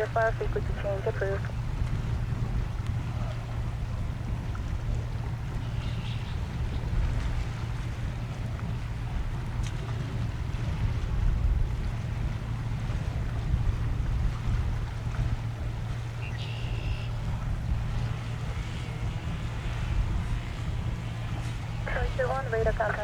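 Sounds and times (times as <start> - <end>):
wind buffeting microphone: 0.0 - 16.4, 17.1 - 23.0.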